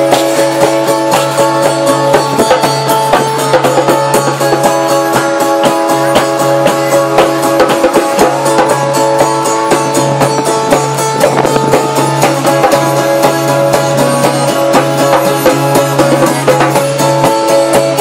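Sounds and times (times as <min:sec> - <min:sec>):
instrumental band music: 0:00.0 - 0:18.0.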